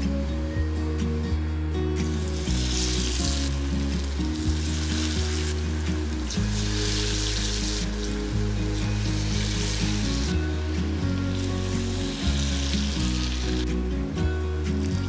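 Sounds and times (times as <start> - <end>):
food deep-frying in hot oil: 2.0 - 15.0.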